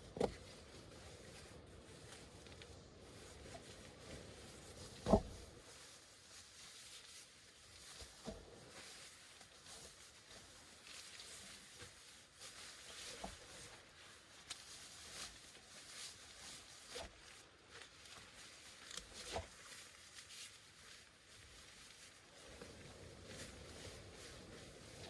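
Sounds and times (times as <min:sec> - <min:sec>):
rain pattering on a tent: 0:00.0 - 0:25.0.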